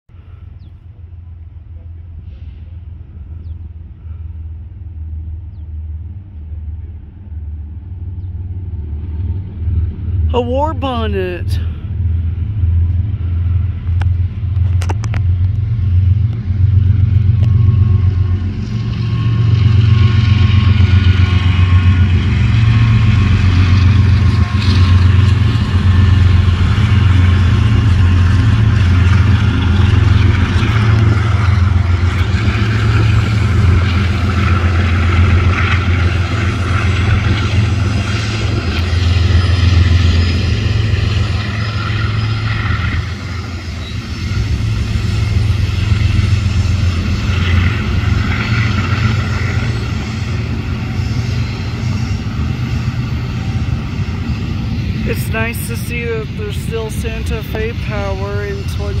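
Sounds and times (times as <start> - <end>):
diesel locomotive engines droning: 0.1 - 59.0.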